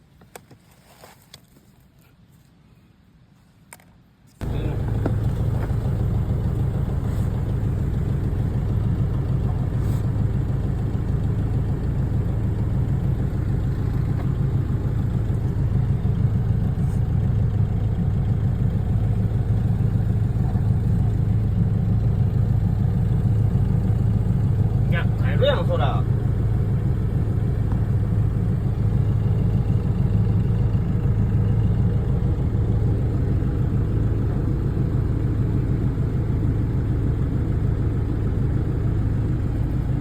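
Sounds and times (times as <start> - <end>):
engine idling: 4.4 - 40.0.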